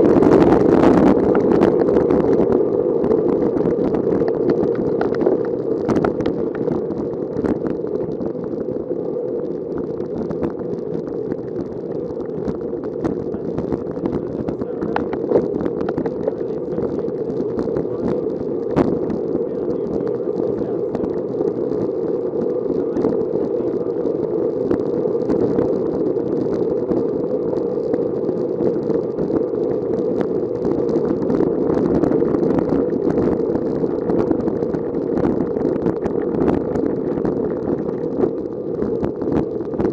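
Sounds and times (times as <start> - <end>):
road noise: 0.0 - 39.9
rushing wind: 0.0 - 39.9.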